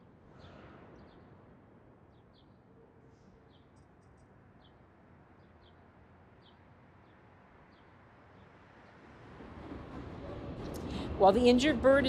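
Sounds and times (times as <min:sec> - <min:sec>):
city ambience hum: 0:00.0 - 0:12.0.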